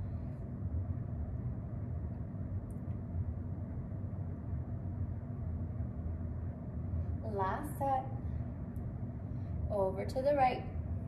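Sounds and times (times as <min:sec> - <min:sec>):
low room rumble and hum: 0:00.0 - 0:11.0.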